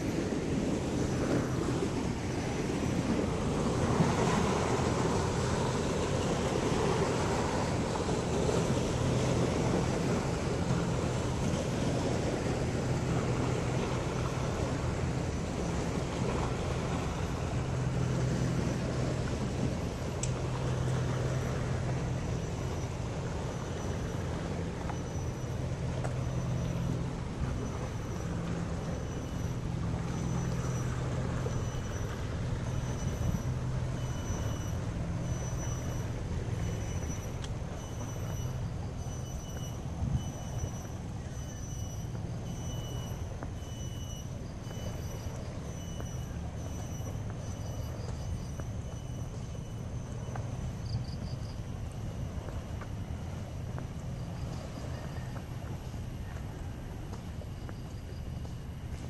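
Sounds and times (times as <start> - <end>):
distant engine and traffic rumble: 0.0 - 59.0
low hum: 0.0 - 59.0
faint high chirp: 5.2 - 59.0.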